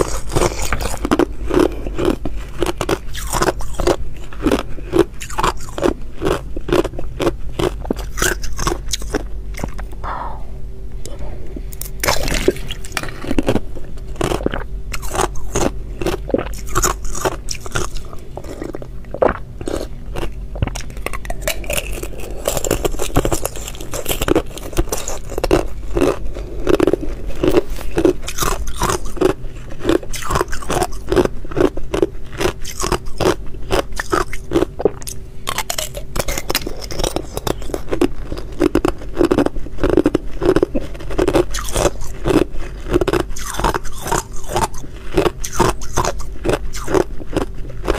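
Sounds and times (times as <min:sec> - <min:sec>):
ice being chewed crunching: 0:00.0 - 0:10.0, 0:11.7 - 0:47.9.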